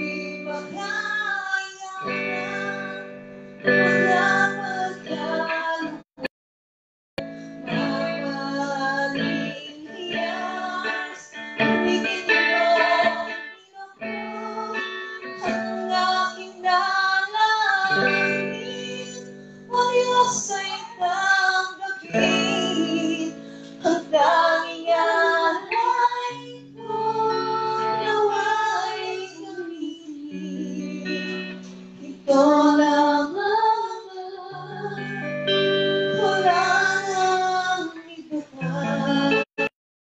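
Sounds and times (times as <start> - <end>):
guitar playing chords: 0.0 - 6.0, 7.2 - 39.7
woman singing into a microphone: 0.0 - 6.0, 7.6 - 39.5.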